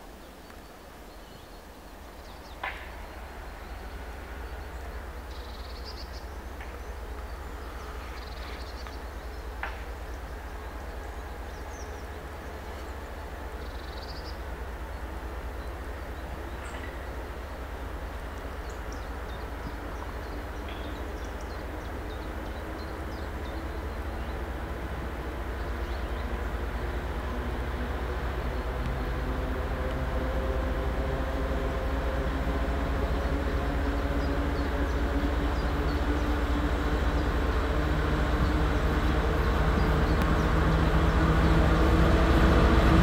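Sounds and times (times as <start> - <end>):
distant diesel locomotives rumbling: 0.0 - 43.0
small birds chirping: 0.1 - 42.8.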